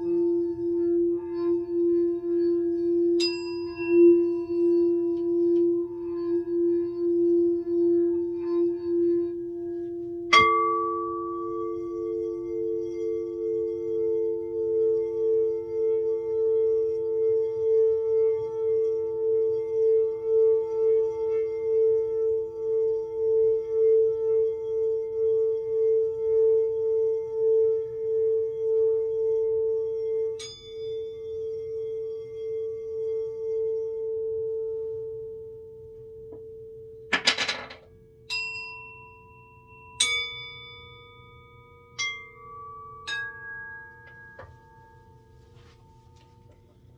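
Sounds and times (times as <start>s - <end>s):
singing bowl humming tone: 0.0s - 37.1s, 38.0s - 46.9s.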